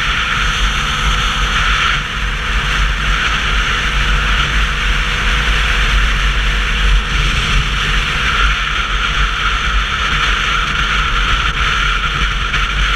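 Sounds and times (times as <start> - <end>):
motorcycle wind and road noise: 0.0 - 12.9.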